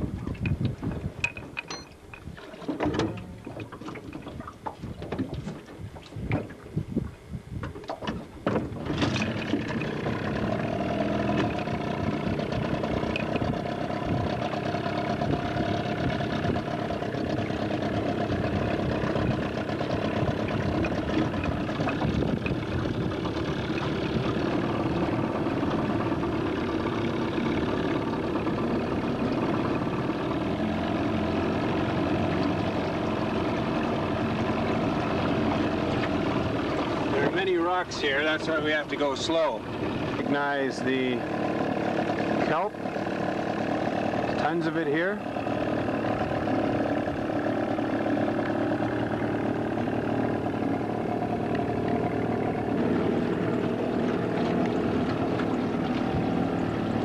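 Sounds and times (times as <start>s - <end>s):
outboard motor pull cord: 0.0s - 57.0s
outboard motor running: 0.0s - 57.0s.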